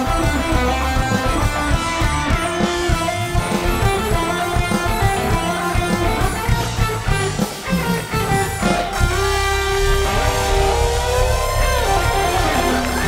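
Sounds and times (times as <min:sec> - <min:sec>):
music with steady beat: 0:00.0 - 0:13.0.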